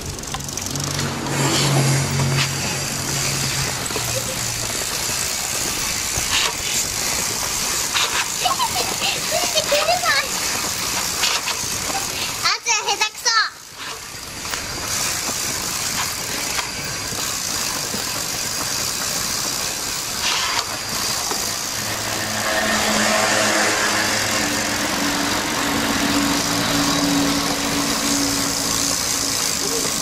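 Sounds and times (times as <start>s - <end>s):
street noise: 0.0s - 30.0s.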